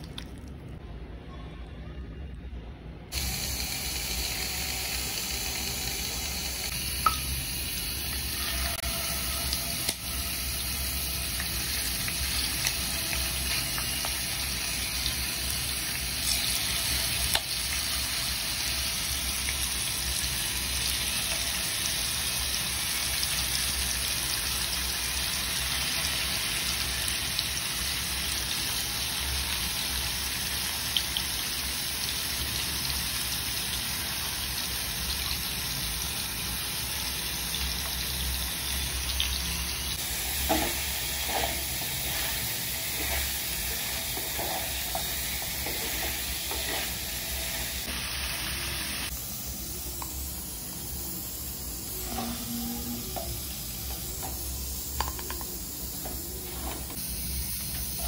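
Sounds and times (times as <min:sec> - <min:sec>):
chicken sizzling in hot oil: 0:03.1 - 0:58.0.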